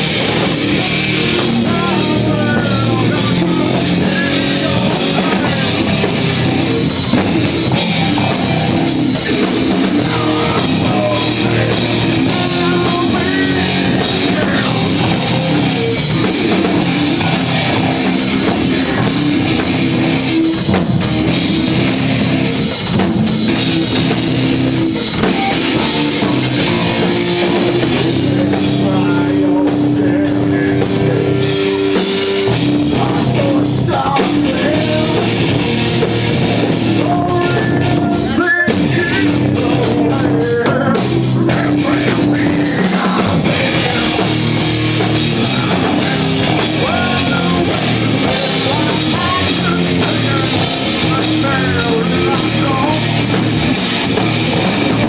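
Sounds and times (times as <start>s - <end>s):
drum kit with cymbals: 0.0s - 55.0s
electric guitar: 0.0s - 55.0s
live rock band playing: 0.0s - 55.0s.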